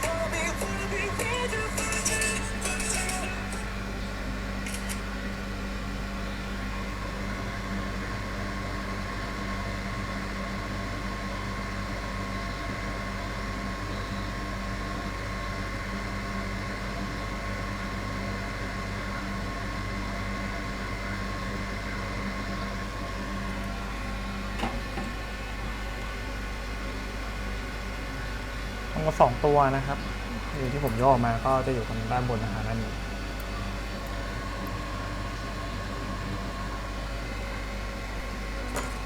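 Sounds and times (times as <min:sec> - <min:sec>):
faint electrical hum: 0:00.0 - 0:39.0
hot air blower whirring: 0:00.0 - 0:39.0.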